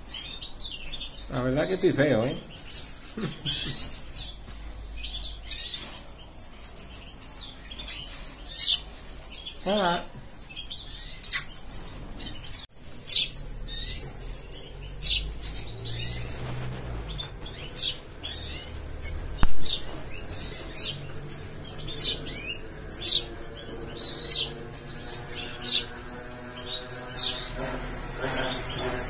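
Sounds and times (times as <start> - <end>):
sparrow chirping: 0.0 - 29.0.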